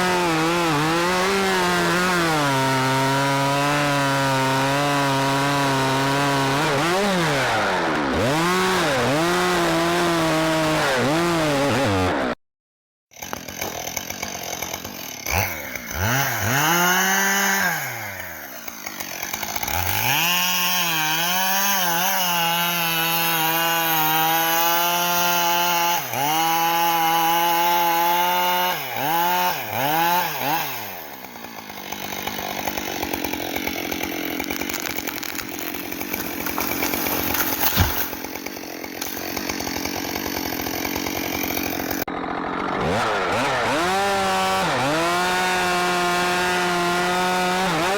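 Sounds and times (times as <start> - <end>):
chainsaw cutting wood: 0.0 - 12.4, 13.1 - 47.9.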